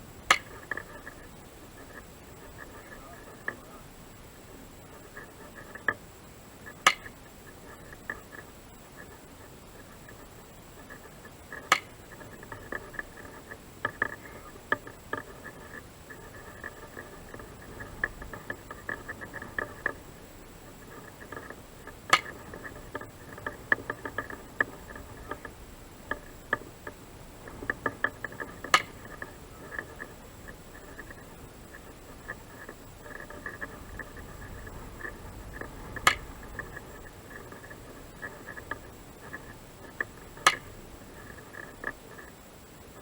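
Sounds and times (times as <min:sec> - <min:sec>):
small irregular clicks: 0:00.0 - 0:43.0.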